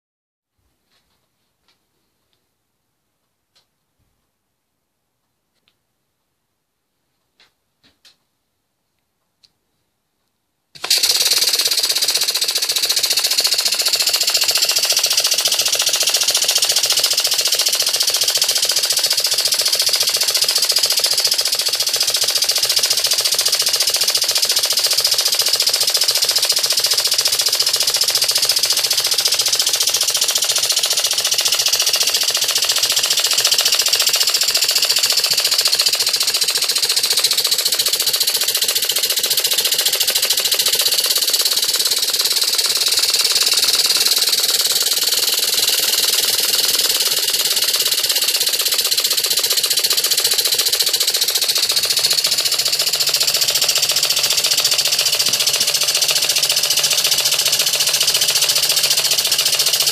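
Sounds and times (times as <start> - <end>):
rapid mechanical clatter: 10.8 - 59.9.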